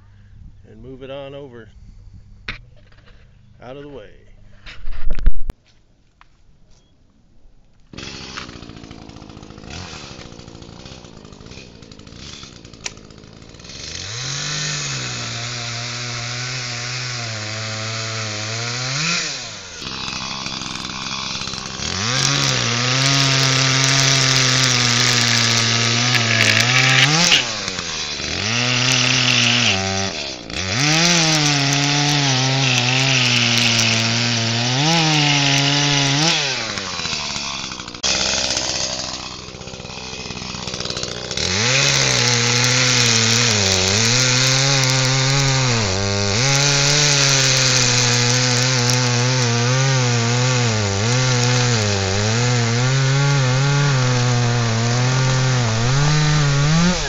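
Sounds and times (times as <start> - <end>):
chainsaw cutting limbs: 7.9 - 57.0.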